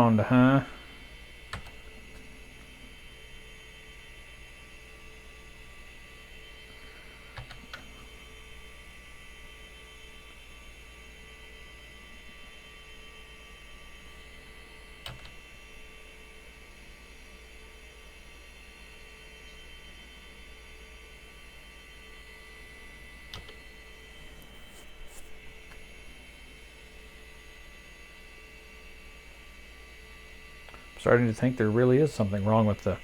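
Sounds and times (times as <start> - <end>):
electrical hum: 0.0 - 33.0
thin whining tones: 0.0 - 33.0.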